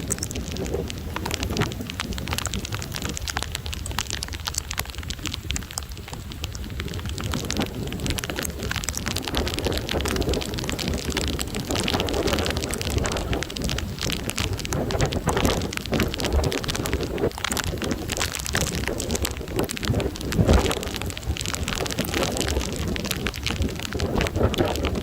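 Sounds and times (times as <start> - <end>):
heavy rain crackling: 0.0 - 25.0
wind rumbling on microphone: 0.0 - 25.0.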